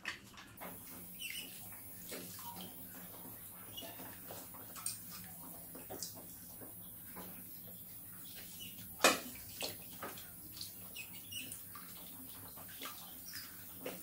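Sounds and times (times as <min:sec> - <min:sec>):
rats splashing in water: 0:00.0 - 0:14.0.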